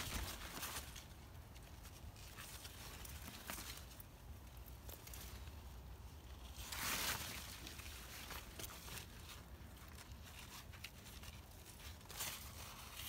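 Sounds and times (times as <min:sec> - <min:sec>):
leaves rustling: 0:00.0 - 0:13.0.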